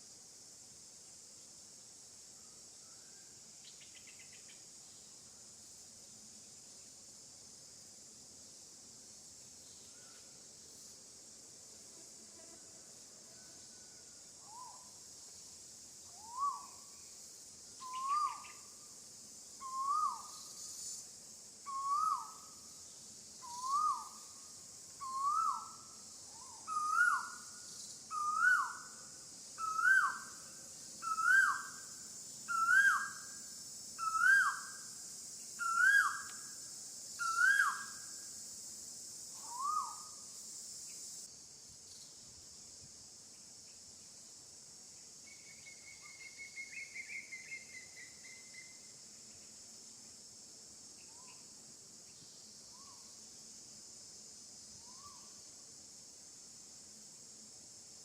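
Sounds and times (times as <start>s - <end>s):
high insect hiss: 0.0s - 58.0s.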